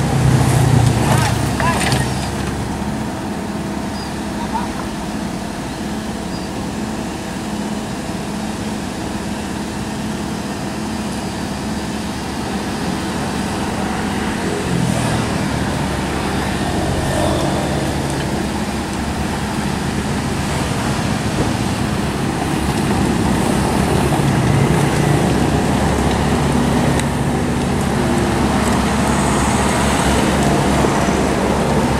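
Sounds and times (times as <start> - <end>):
excavator diesel engine: 0.0 - 31.9.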